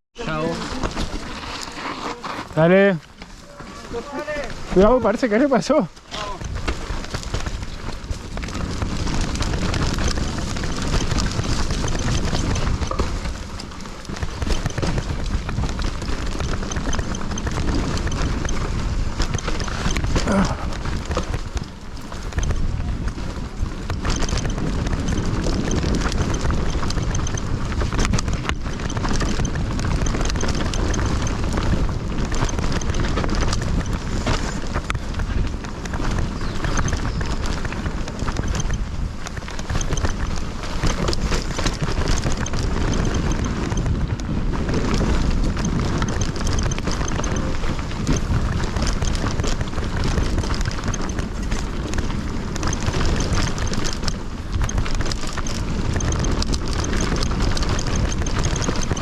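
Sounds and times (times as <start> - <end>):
tyres on dirt: 0.1 - 59.0
bike rattling and knocking: 0.2 - 59.0
wind buffeting microphone: 2.5 - 59.0.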